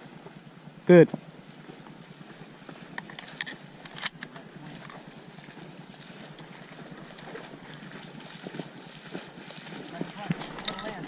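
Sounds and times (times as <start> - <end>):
faint outdoor hiss: 0.0 - 11.0
reeds rustling against camera: 1.5 - 11.0.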